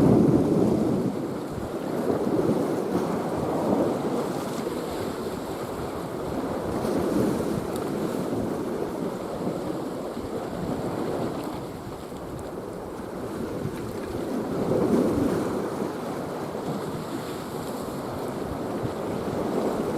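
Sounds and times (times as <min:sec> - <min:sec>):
sea waves on rocky shore: 0:00.0 - 0:19.9
wind buffeting microphone: 0:00.0 - 0:19.9.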